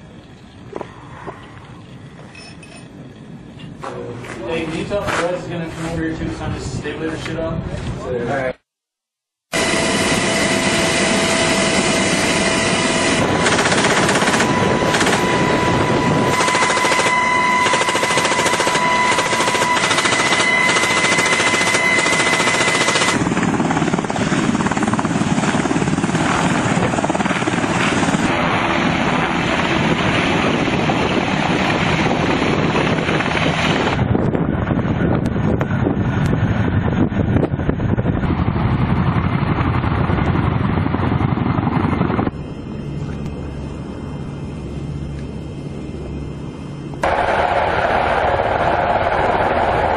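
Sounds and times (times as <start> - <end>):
aircraft noise: 0.0 - 8.6, 9.5 - 49.9
high whine: 9.5 - 49.9.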